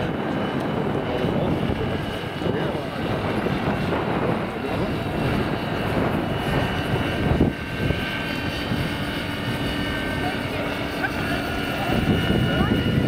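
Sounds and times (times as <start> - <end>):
model helicopter rotor noise: 0.0 - 13.0
thin steady whine: 0.0 - 13.0
wind rumbling on microphone: 0.0 - 13.0.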